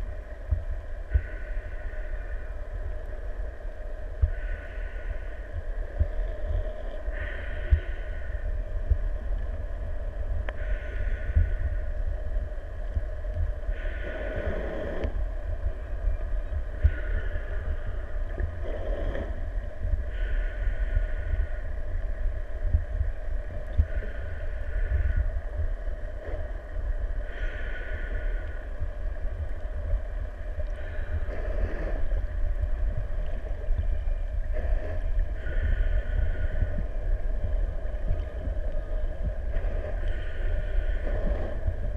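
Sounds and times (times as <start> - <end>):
low underwater rumble: 0.0 - 41.9.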